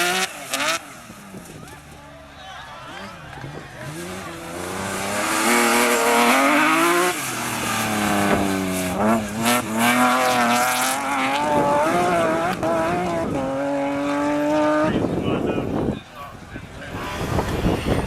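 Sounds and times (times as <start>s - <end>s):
rally car engine revving: 0.0s - 2.0s, 2.9s - 15.9s.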